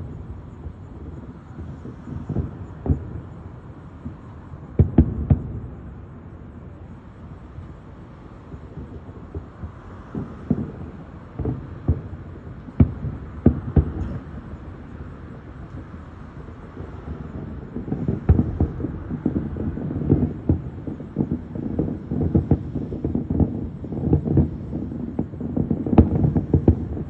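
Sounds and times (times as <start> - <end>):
distant fireworks booming: 0.0 - 27.0.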